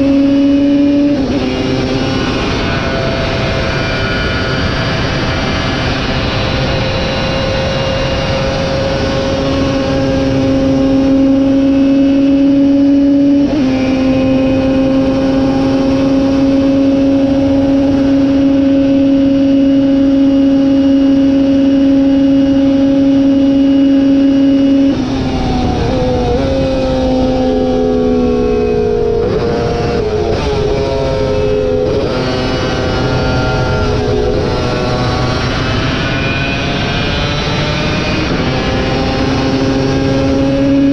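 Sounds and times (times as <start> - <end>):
racing motorcycle engine revving: 0.0 - 40.9.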